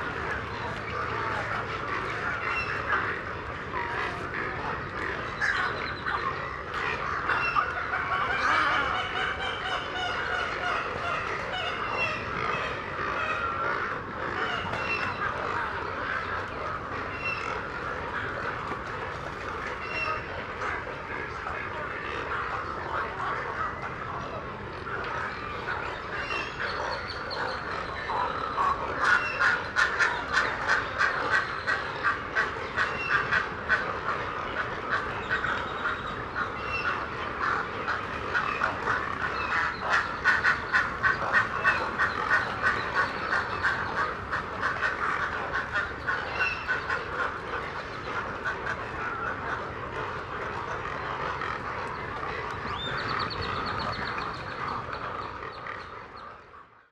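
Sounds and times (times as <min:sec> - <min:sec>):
chorus of nesting birds calling: 0:00.0 - 0:24.4, 0:25.1 - 0:56.5.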